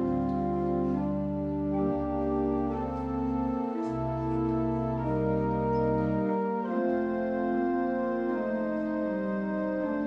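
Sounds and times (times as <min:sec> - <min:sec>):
organ playing sustained chords: 0:00.0 - 0:10.0.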